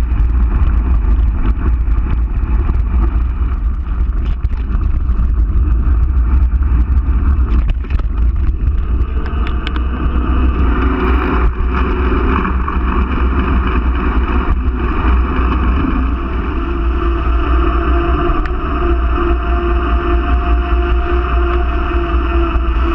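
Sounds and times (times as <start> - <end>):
bike tyres rattling on gravel: 0.0 - 22.9
tyre hum on asphalt: 0.0 - 22.9
wind on microphone: 0.0 - 22.9.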